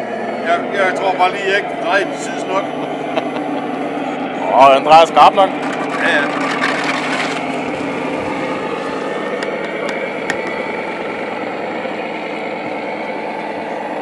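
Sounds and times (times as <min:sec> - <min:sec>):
model trucks running: 0:00.0 - 0:14.0.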